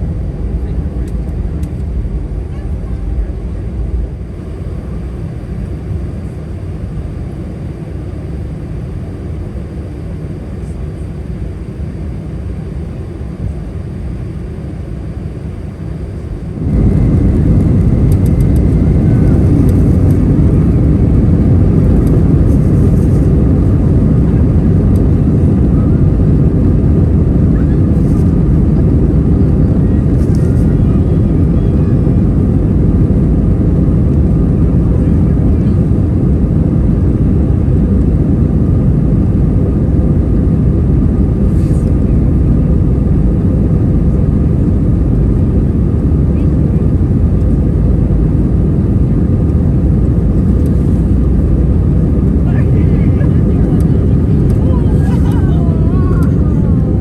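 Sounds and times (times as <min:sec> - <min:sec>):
airliner cabin engine roar: 0:00.0 - 0:57.0.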